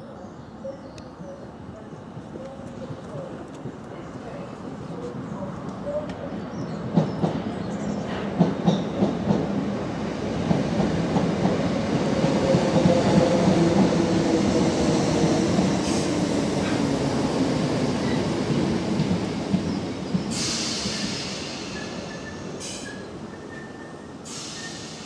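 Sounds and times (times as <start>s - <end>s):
train rumble with low hum: 1.2s - 25.0s.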